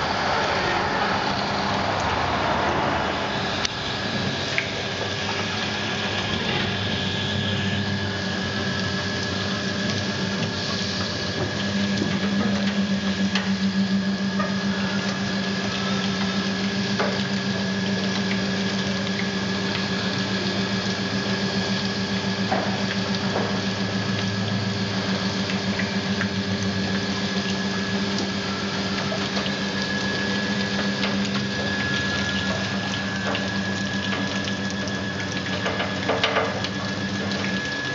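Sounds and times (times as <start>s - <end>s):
welding machine electrical hum: 0.0s - 37.9s.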